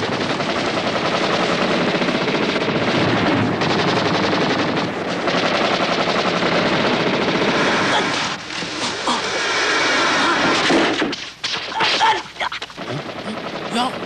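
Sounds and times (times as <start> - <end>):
rapid automatic gunfire: 0.0 - 8.8, 9.4 - 14.0.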